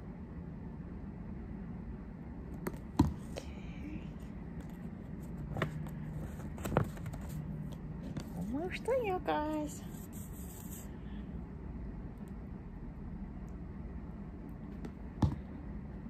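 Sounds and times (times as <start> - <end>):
low room tone rumble: 0.0 - 16.0
steady low hum: 0.0 - 16.0.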